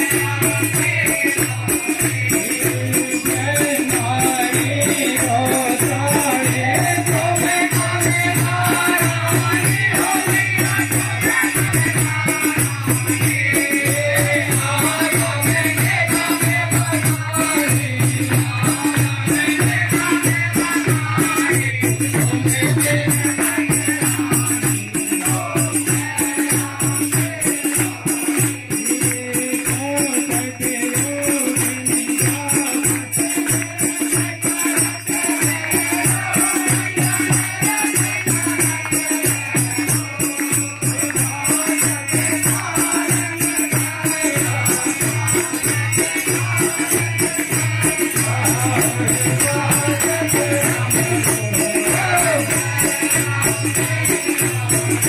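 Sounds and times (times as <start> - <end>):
devotional music with rattle percussion: 0.0 - 55.0.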